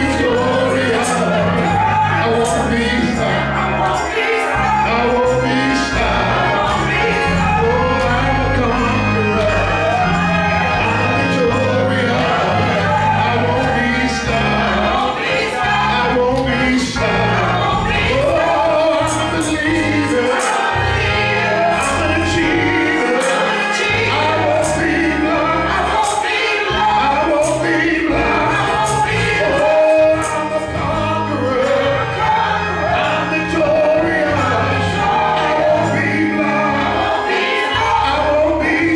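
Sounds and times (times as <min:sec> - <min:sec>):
man singing into a microphone: 0:00.0 - 0:20.6, 0:21.3 - 0:37.0, 0:37.7 - 0:38.9
backing singers: 0:00.0 - 0:38.9
instrumental accompaniment: 0:00.0 - 0:38.9.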